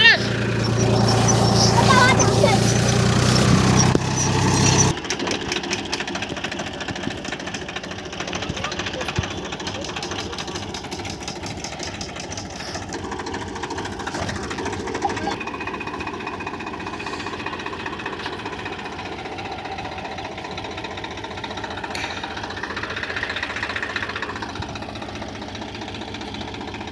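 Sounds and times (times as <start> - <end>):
tractor diesel engine clattering: 0.0 - 26.9.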